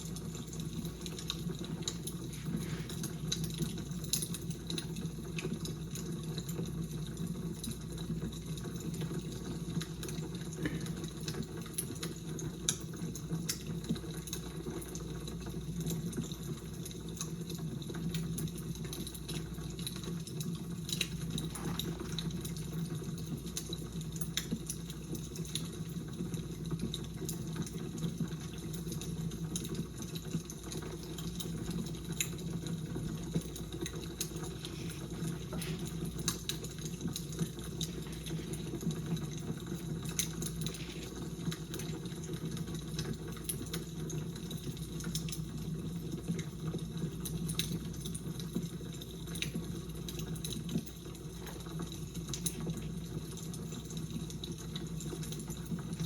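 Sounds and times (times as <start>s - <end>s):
fire crackling: 0.0s - 15.0s, 15.6s - 55.9s.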